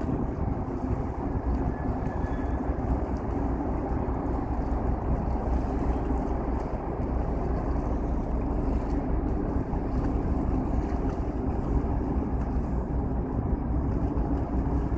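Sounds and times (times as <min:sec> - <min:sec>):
boat engines rumbling: 0:00.0 - 0:14.9
wind buffeting microphone: 0:00.0 - 0:14.9.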